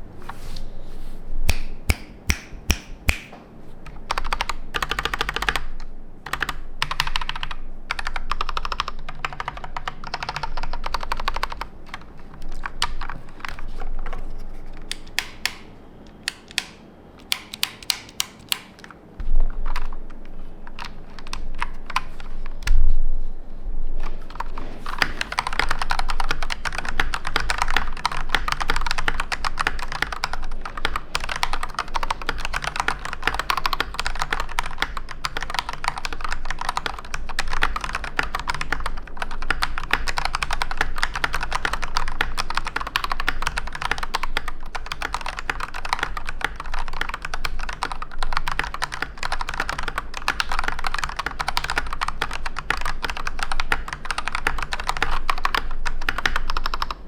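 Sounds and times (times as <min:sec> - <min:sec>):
fast typing on mechanical keyboard: 0:04.1 - 0:14.2, 0:14.8 - 0:18.9, 0:20.6 - 0:22.3, 0:24.3 - 0:57.0.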